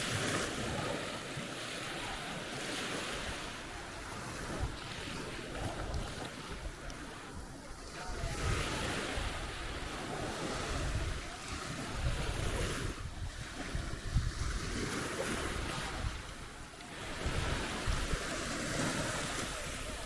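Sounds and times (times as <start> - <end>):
surf breaking on beach: 0.0 - 20.0
wind rumbling on microphone: 0.0 - 20.0.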